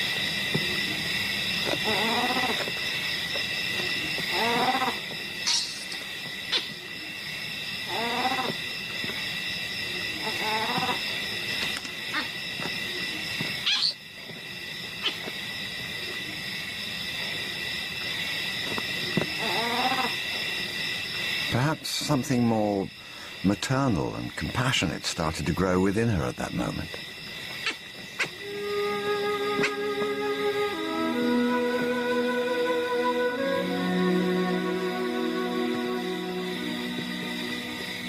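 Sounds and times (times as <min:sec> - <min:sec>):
night insects trilling: 0:00.0 - 0:38.0.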